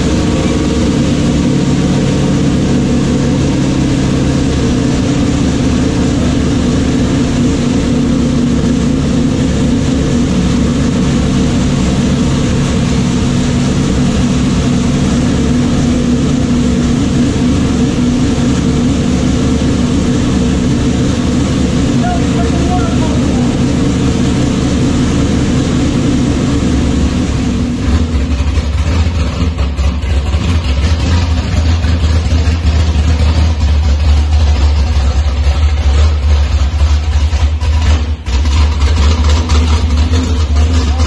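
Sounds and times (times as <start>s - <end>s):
vee-eight engine running: 0.0s - 41.0s.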